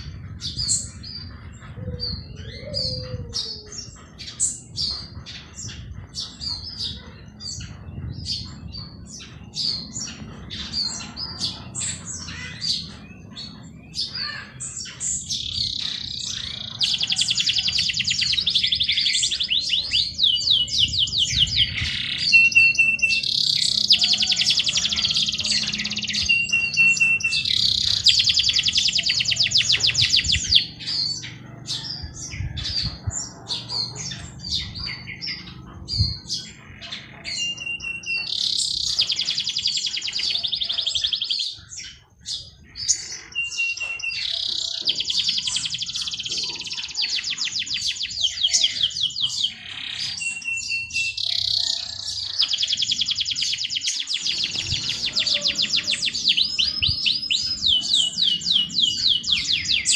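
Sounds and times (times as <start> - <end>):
birds chattering trills: 0.0 - 59.9
songbirds chirping: 0.0 - 59.9.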